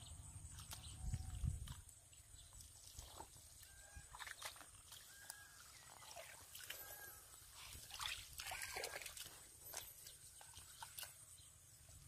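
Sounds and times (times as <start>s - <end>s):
muddy water sloshing and squelching: 0.4s - 12.0s
small splashes: 0.5s - 11.4s.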